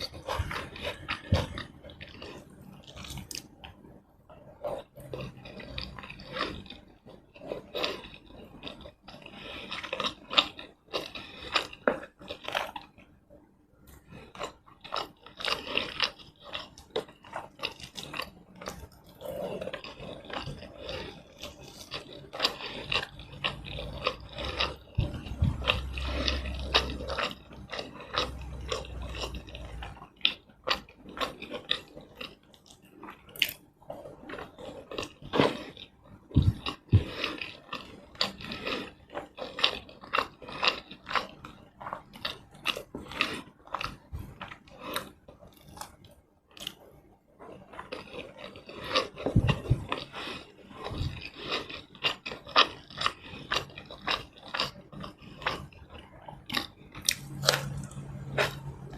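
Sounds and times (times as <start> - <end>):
close chewing and mouth clicks: 0.0 - 13.1, 13.9 - 58.9.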